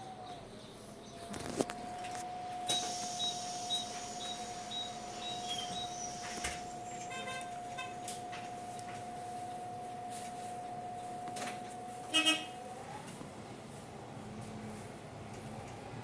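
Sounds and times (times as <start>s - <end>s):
bus cabin whine: 0.0s - 16.0s.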